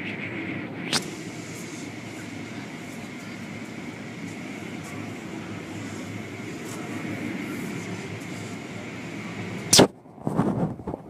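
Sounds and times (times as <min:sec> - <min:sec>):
car wash machinery running: 0:00.0 - 0:09.8.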